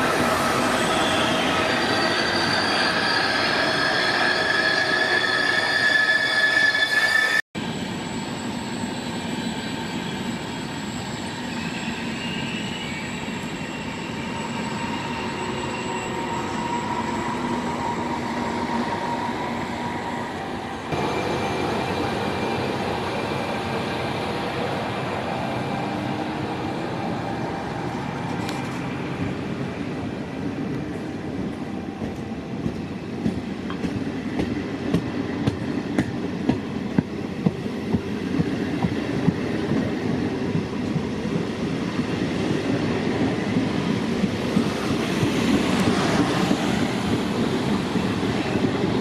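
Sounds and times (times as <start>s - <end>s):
rising train whine: 0.0s - 49.0s.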